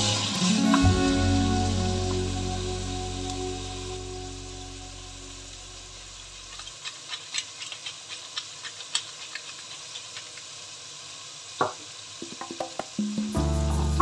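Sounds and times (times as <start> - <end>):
food frying with crackles: 0.0 - 14.0.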